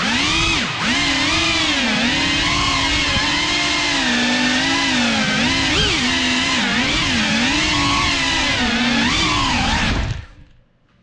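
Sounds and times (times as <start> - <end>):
drone propellers whining: 0.0 - 10.5.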